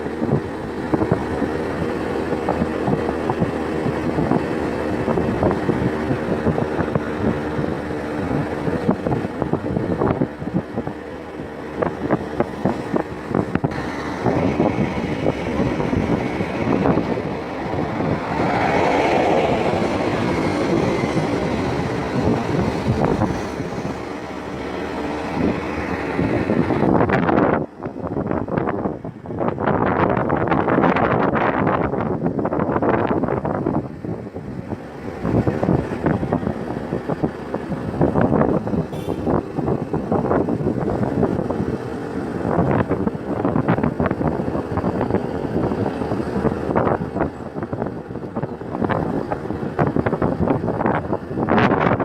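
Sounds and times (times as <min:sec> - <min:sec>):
road and wind noise: 0:00.0 - 0:52.0
vehicle engine hum: 0:00.0 - 0:52.0.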